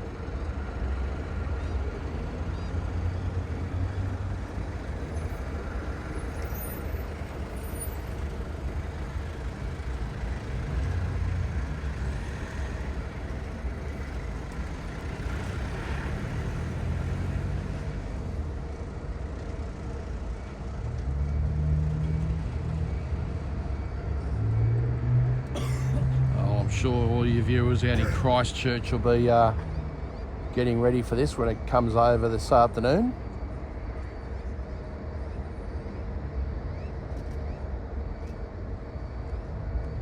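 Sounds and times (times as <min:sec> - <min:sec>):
distant engines rumbling: 0:00.4 - 0:36.6.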